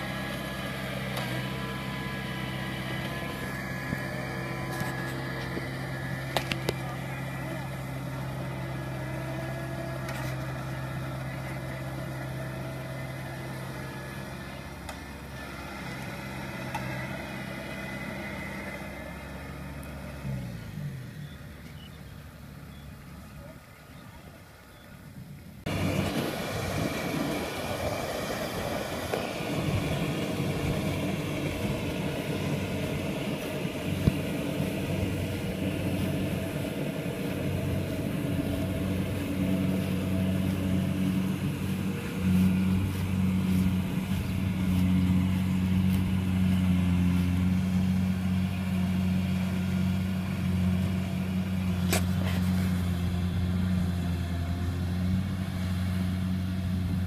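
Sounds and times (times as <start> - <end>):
combine harvester engine humming: 0.0 - 57.0.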